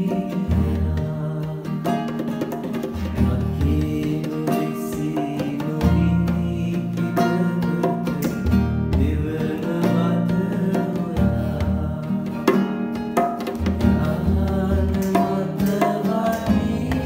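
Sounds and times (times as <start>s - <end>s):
acoustic guitar strummed and plucked: 0.0s - 17.0s.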